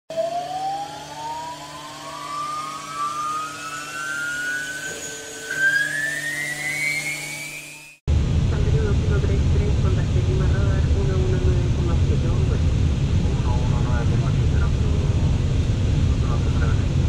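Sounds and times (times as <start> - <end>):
jet turbine whine rising: 0.1 - 17.0
low hum: 0.1 - 17.0.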